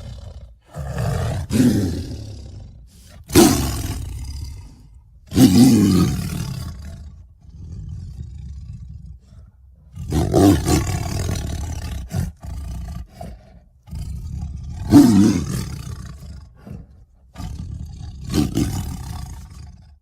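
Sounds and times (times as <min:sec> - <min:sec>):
tiger growling: 0:00.0 - 0:20.0
tiger roaring: 0:00.0 - 0:20.0.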